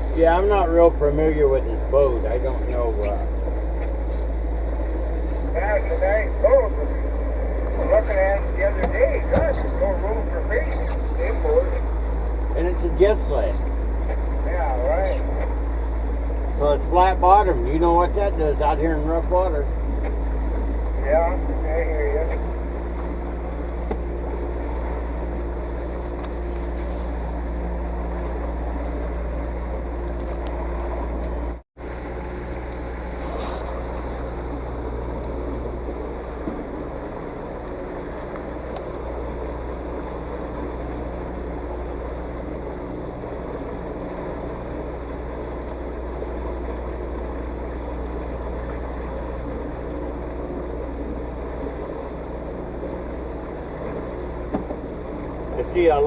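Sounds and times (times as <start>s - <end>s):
motorboat engine running: 0.0s - 56.0s
water noise: 0.0s - 56.0s
wind: 0.0s - 56.0s.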